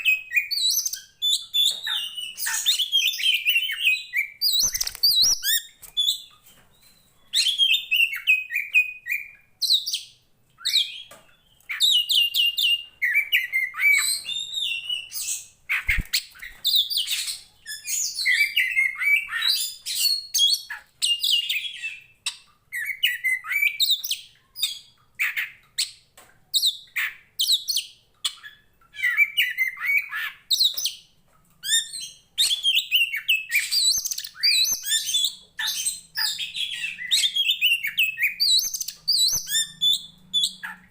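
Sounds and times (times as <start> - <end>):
bird song whistles and trills: 0.0 - 40.9.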